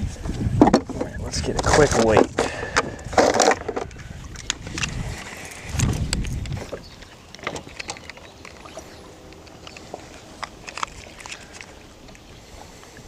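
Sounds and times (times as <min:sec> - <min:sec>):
clicks and knocks of fish handling: 0:00.3 - 0:12.2.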